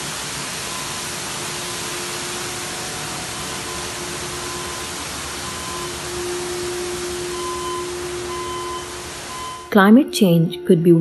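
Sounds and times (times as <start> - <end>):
water pouring and splashing: 0.0 - 9.7.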